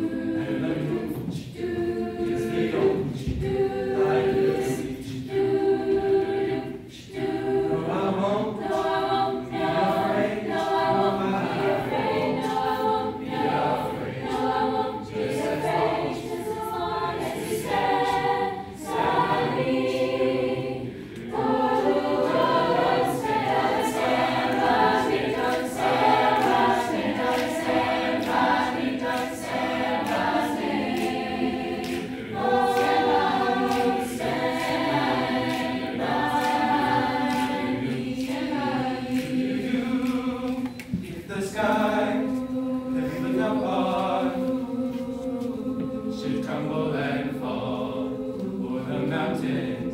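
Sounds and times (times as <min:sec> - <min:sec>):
choir singing a cappella: 0:00.0 - 0:49.9.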